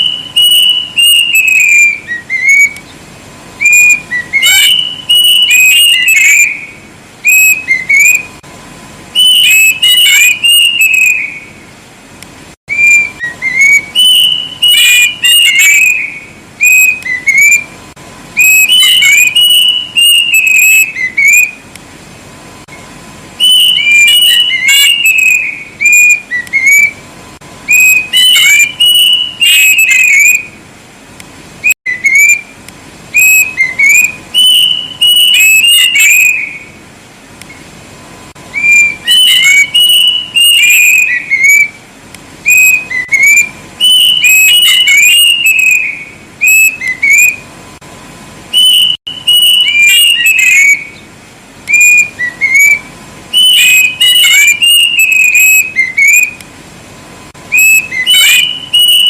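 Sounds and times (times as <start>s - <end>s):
cuckoo whistled song: 0.0s - 8.4s, 9.1s - 11.7s, 12.7s - 21.7s, 22.6s - 27.0s, 27.6s - 30.6s, 31.6s - 36.8s, 38.4s - 41.8s, 42.4s - 47.5s, 48.5s - 51.1s, 51.7s - 56.5s, 57.5s - 59.0s.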